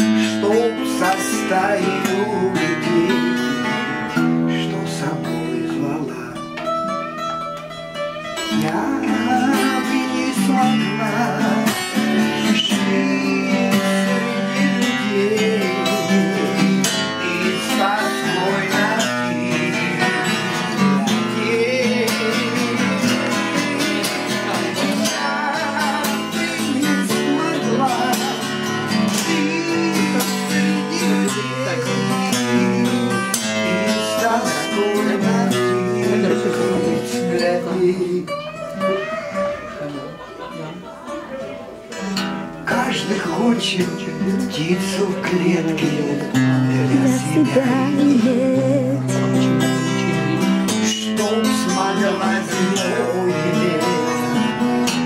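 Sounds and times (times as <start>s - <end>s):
man singing: 0.0s - 7.5s, 8.3s - 40.3s, 42.0s - 55.0s
acoustic guitar strumming: 0.0s - 55.0s.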